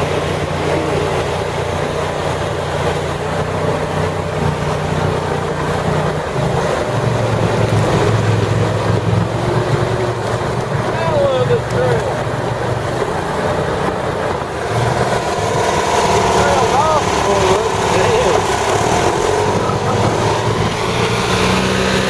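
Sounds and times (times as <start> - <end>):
atv engine under load: 0.0 - 22.0
water rushing: 0.0 - 22.0
wind noise: 1.2 - 22.0.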